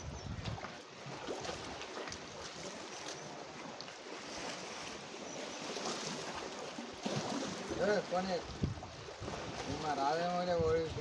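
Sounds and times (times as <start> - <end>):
water rushing: 0.0 - 11.0
faint splashes: 0.4 - 11.0.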